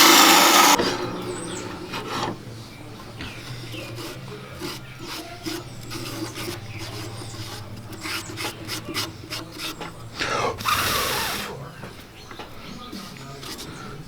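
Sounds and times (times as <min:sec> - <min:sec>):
turning tool scraping wood: 0:00.0 - 0:14.0
wood lathe humming: 0:00.0 - 0:14.0.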